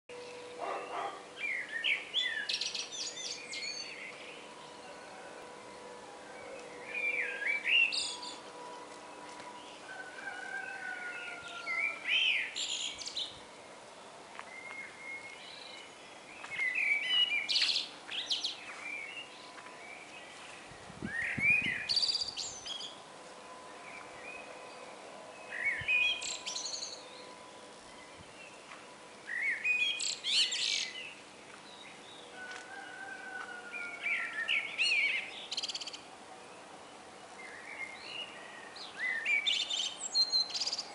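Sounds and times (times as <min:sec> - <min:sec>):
blackbird singing: 0:00.1 - 0:05.2, 0:06.4 - 0:08.6, 0:09.6 - 0:13.4, 0:14.5 - 0:23.0, 0:23.8 - 0:27.3, 0:29.2 - 0:32.3, 0:32.9 - 0:36.1, 0:37.4 - 0:40.9.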